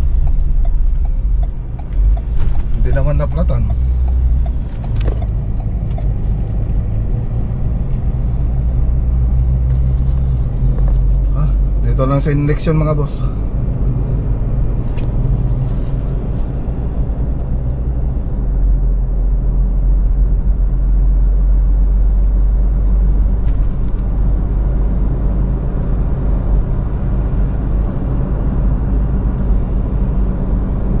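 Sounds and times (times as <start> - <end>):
car interior highway rumble: 0.0 - 31.0.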